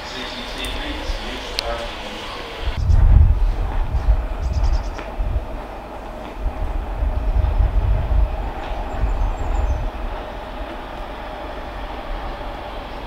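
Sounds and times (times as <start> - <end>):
distant train approaching: 0.0 - 13.0.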